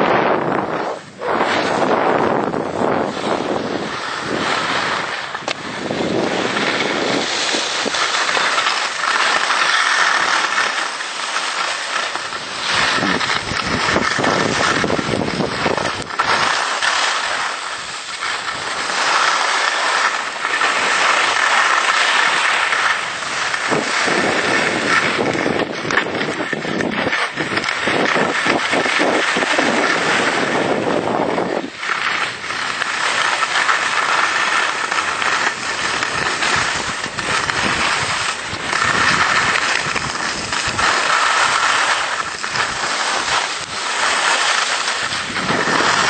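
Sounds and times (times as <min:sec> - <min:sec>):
wind buffeting microphone: 0:00.0 - 0:10.4, 0:12.1 - 0:16.6, 0:22.6 - 0:44.3, 0:45.0 - 0:46.0
skis scraping over packed snow: 0:00.0 - 0:46.0.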